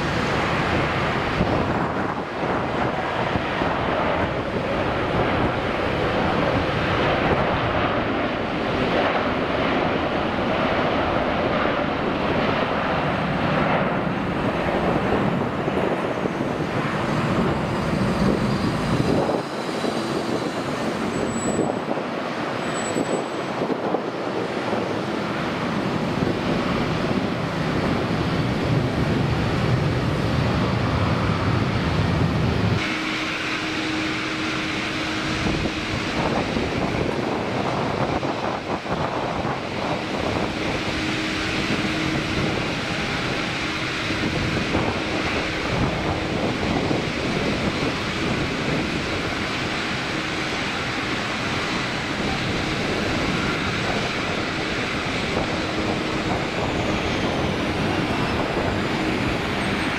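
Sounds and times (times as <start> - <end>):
jet engine roar: 0.0 - 59.9
turboprop propeller hum: 0.0 - 59.9.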